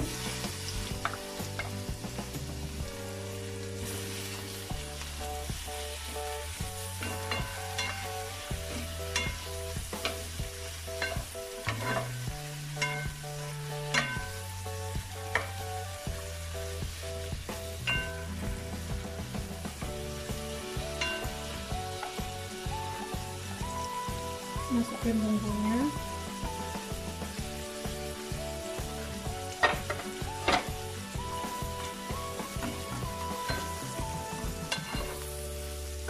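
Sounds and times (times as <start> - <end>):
chicken sizzling in a frying pan: 0.0 - 36.0.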